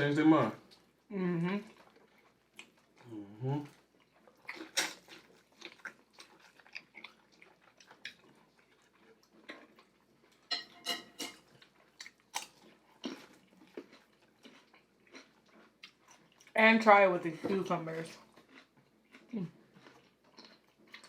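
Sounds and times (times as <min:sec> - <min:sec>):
person chewing wetly: 0:00.6 - 0:16.6, 0:18.1 - 0:21.0.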